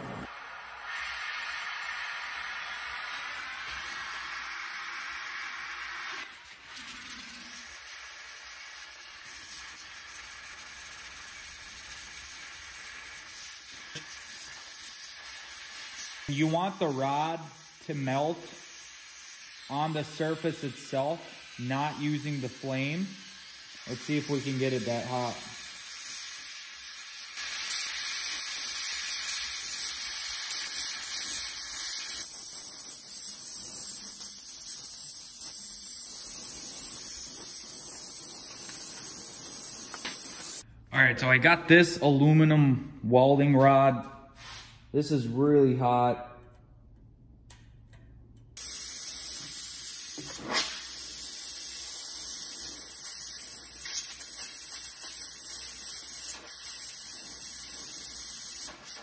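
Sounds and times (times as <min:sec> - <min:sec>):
torch flame hissing: 0:00.0 - 0:40.7, 0:48.6 - 0:59.0.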